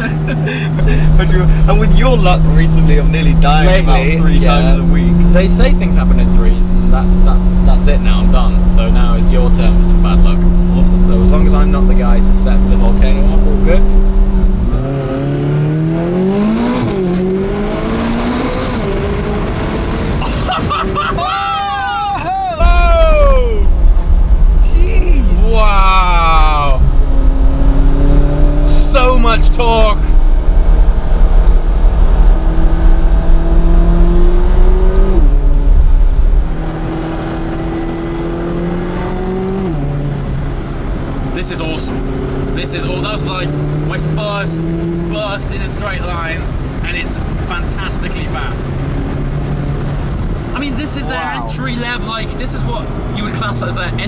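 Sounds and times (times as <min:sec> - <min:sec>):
car engine accelerating: 0:00.0 - 0:21.4, 0:22.6 - 0:54.0.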